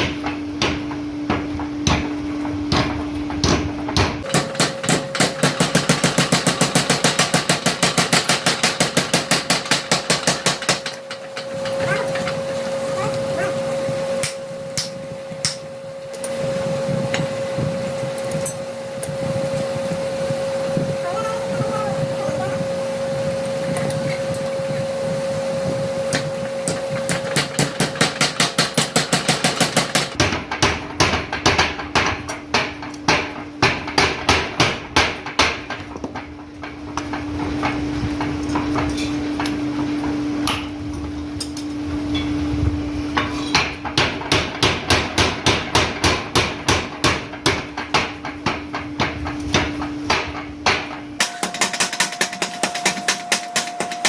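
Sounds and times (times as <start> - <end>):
power hammer pounding hot steel: 0.0 - 21.3, 21.9 - 42.3, 43.1 - 54.0
steady hum: 0.0 - 54.0.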